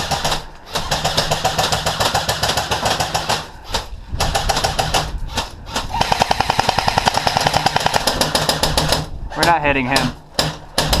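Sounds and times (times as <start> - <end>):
airsoft guns firing bursts: 0.0 - 3.5, 4.2 - 9.1, 9.9 - 11.0.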